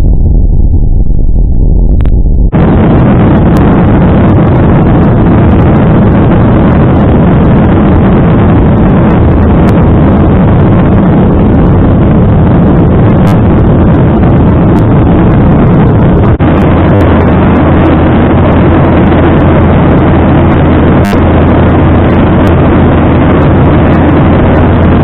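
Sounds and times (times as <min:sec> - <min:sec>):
jet engines and rushing air: 0:00.0 - 0:25.0
low steady hum: 0:00.0 - 0:25.0.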